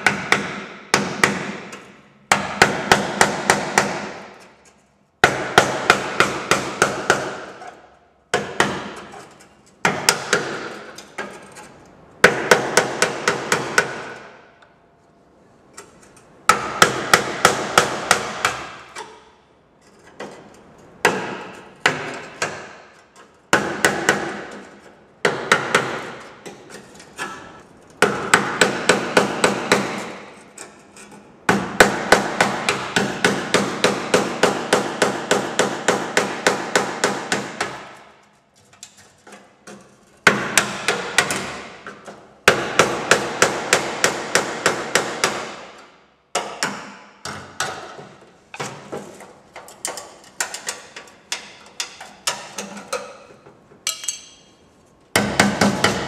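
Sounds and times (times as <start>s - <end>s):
hammer striking chisel on metal: 0.0s - 11.6s, 12.2s - 14.4s, 16.5s - 19.3s, 20.2s - 38.2s, 39.7s - 48.0s, 49.6s - 54.6s, 55.2s - 56.0s.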